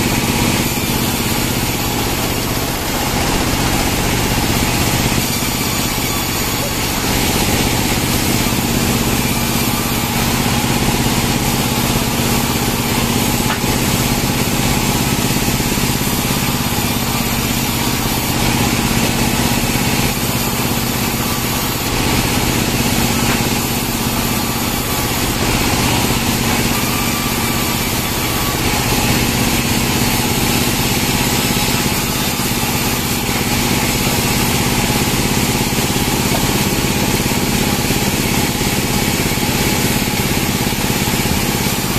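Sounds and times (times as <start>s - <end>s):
sawmill machine drone: 0.0s - 41.9s.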